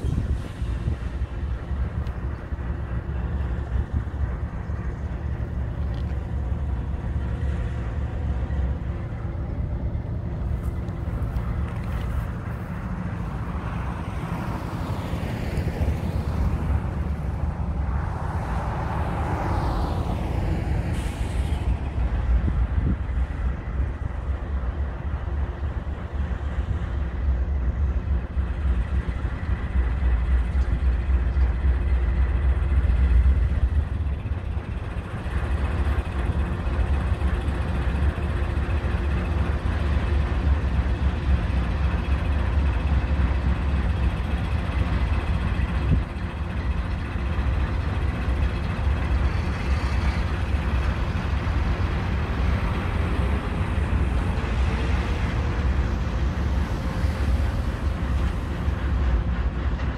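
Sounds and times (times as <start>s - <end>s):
diesel locomotive engine idling: 0.0s - 59.9s.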